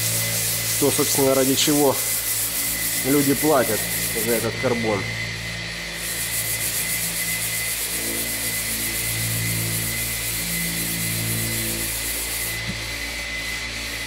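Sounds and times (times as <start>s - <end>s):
sandpaper scratching: 0.0s - 5.1s, 5.8s - 14.0s
steady low hum: 0.0s - 14.0s.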